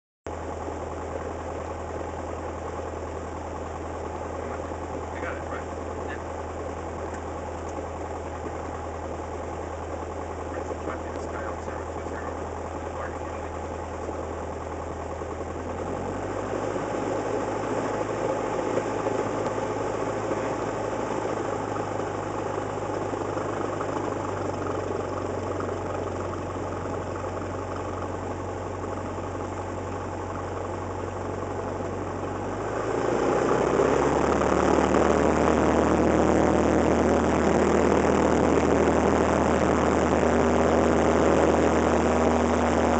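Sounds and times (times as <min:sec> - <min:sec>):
light aircraft engine and propeller: 0:00.3 - 0:42.9.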